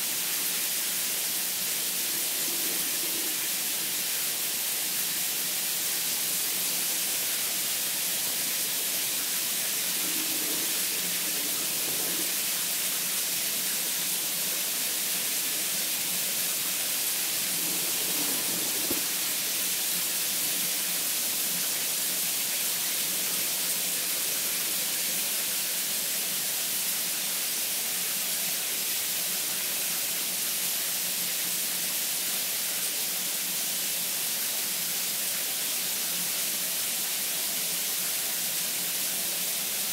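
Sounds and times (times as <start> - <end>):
shower water hissing on tiles: 0.0 - 39.9.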